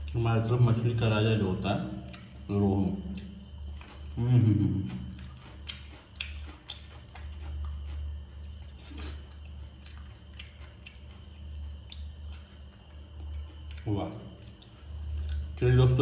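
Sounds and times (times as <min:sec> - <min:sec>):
person chewing: 0:02.0 - 0:15.7.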